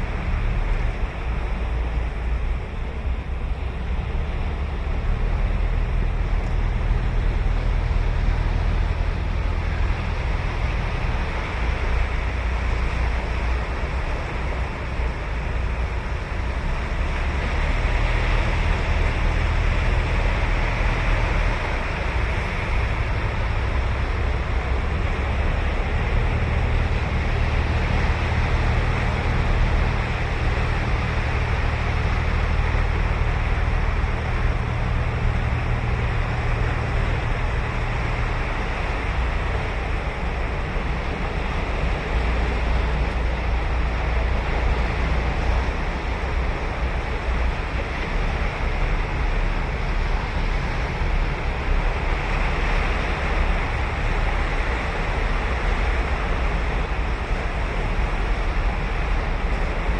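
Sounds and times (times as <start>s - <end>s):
ocean surf breaking on beach: 8.1s - 59.9s.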